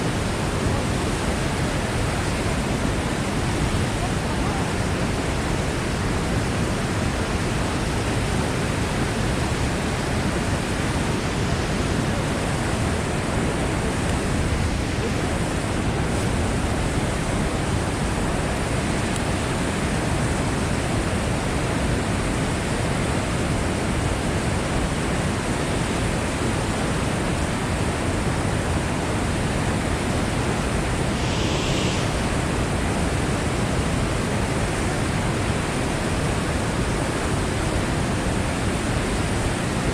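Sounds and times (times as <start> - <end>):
water rushing from floodgates: 0.0 - 39.9.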